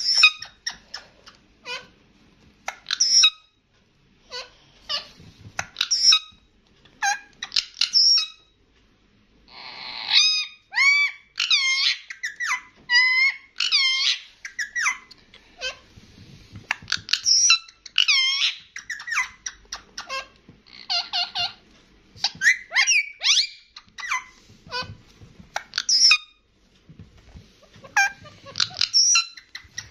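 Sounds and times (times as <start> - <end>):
parakeet squeaking and chattering: 0.0 - 1.9, 2.6 - 3.5, 4.3 - 6.4, 7.0 - 8.5, 9.5 - 21.6, 22.2 - 26.4, 27.4 - 29.9.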